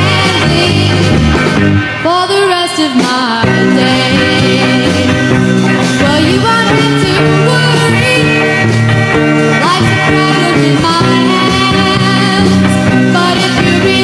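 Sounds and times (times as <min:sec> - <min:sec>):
song playing: 0:00.0 - 0:14.0.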